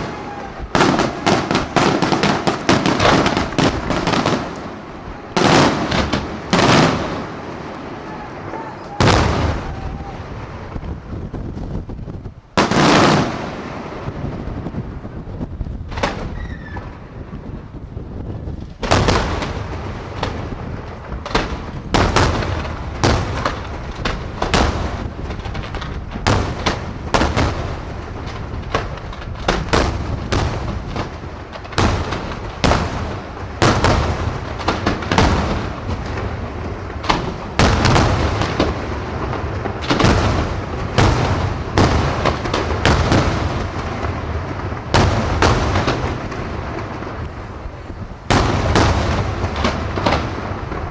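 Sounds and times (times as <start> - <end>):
fireworks bursting: 0.0 - 50.9.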